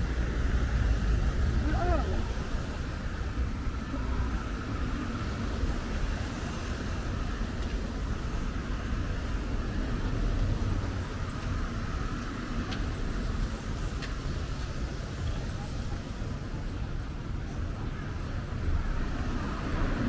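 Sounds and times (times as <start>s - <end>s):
low rumble of traffic: 0.0s - 20.0s.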